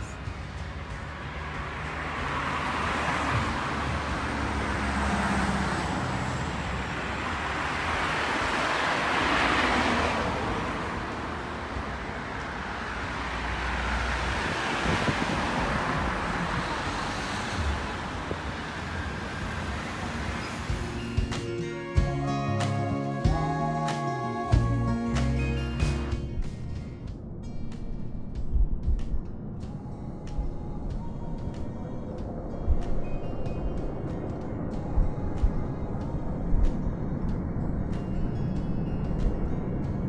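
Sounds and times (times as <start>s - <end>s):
cars passing: 0.0s - 40.0s
low road rumble: 0.0s - 40.0s.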